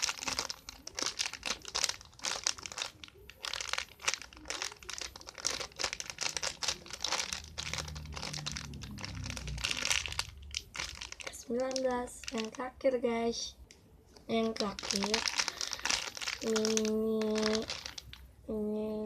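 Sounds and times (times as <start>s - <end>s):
squishy toy crinkling and rustling: 0.0s - 13.4s, 14.2s - 18.4s.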